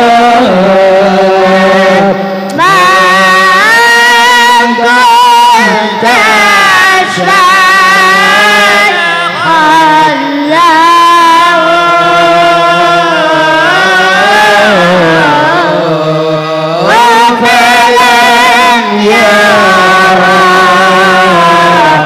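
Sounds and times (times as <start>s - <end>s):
man singing melismatic lines: 0.0s - 22.0s.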